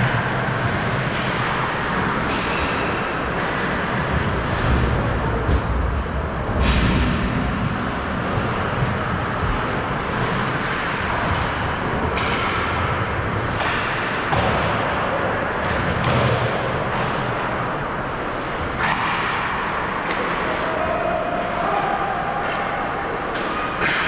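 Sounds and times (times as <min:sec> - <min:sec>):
steady rink noise: 0:00.0 - 0:24.0.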